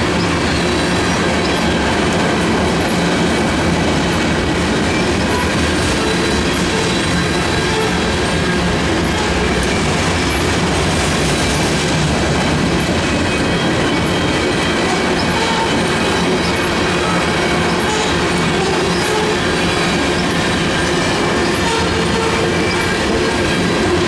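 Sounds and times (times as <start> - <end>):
freight train wheels clicking: 0.0 - 24.0.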